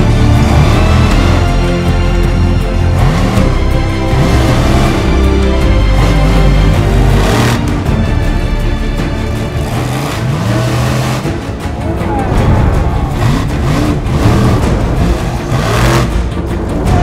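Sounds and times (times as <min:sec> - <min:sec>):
monster truck engine revving: 0:00.0 - 0:17.0
music track: 0:00.0 - 0:17.0.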